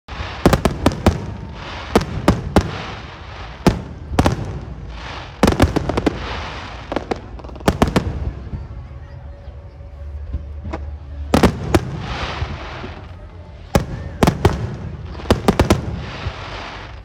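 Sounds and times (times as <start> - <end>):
fireworks crackle and hiss: 0.1 - 8.7, 10.7 - 17.0.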